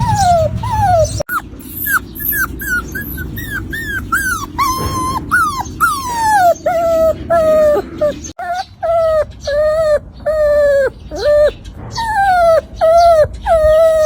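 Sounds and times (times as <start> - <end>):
puppy whimpering: 0.0 - 14.0.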